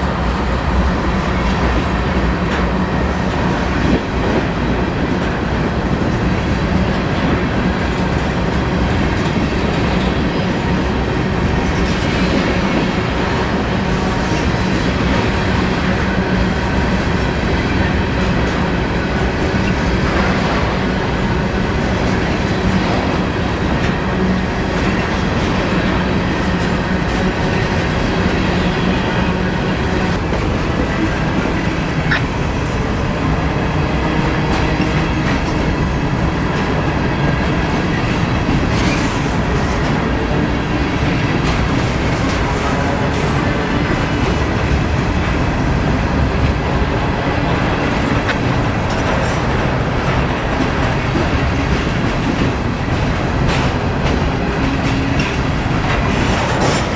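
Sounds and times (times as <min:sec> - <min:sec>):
freight train rolling past: 0:00.0 - 0:56.9.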